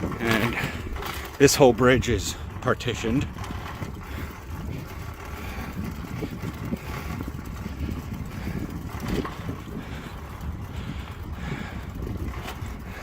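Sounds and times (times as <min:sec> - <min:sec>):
road and bike noise: 0:00.0 - 0:13.0
wind buffeting microphone: 0:00.0 - 0:13.0.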